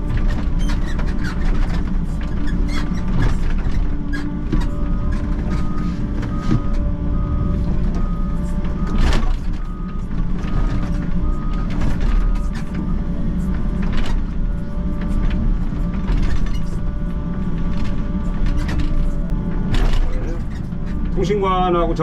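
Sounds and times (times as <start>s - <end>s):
excavator diesel engine and hydraulics: 0.0s - 22.0s.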